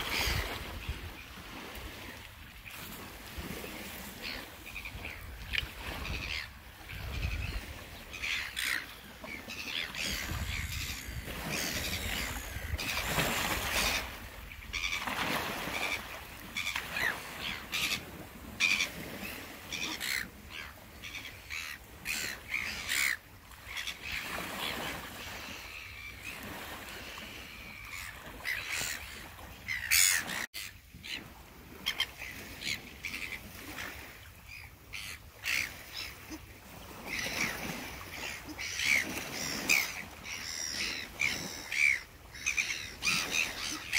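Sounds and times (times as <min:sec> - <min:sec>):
gulls squawking: 0:00.0 - 0:00.8, 0:04.2 - 0:31.2, 0:31.8 - 0:43.9.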